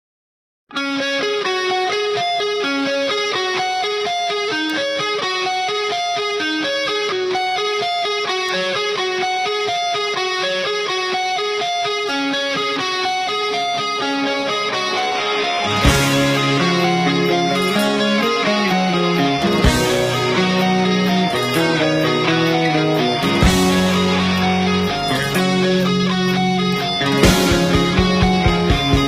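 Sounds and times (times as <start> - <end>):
guitar picking fast notes: 0.7 - 29.0.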